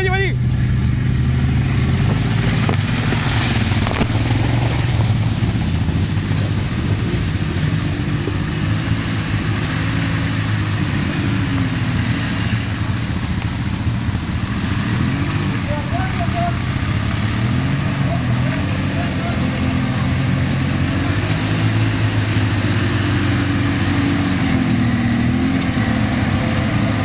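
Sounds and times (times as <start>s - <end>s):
quad bike engines idling: 0.0s - 27.0s.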